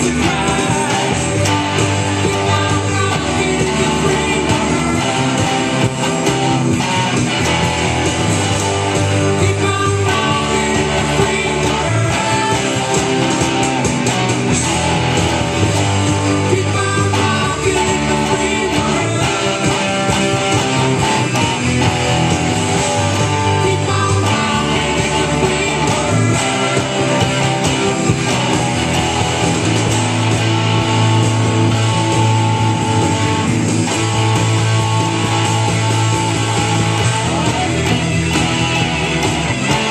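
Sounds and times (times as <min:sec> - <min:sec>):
electric guitar picked rock style: 0:00.0 - 0:39.9.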